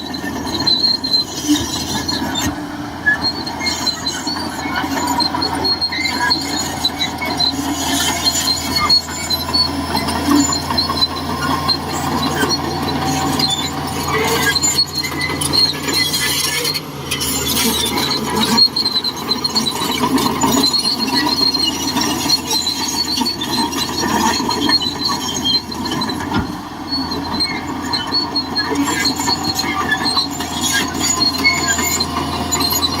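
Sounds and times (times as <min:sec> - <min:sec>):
bulldozer engine droning: 0:00.0 - 0:33.0
steel tracks squealing and clattering: 0:00.0 - 0:33.0.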